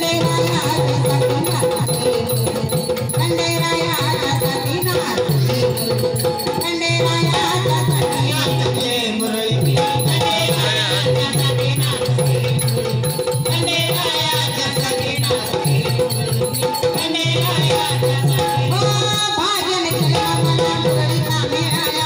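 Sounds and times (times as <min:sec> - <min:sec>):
jingling rattle percussion: 0:00.0 - 0:22.0
repeating drum beat: 0:00.0 - 0:22.0.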